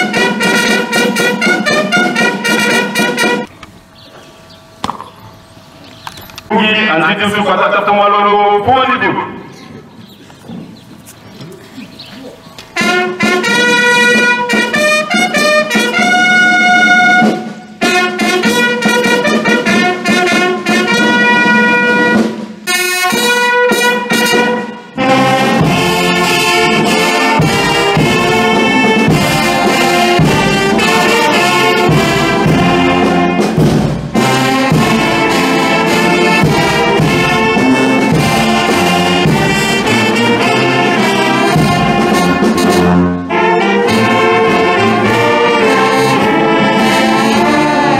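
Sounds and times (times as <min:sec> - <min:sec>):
brass band playing: 0:00.0 - 0:03.5, 0:06.5 - 0:09.4, 0:12.7 - 0:47.9.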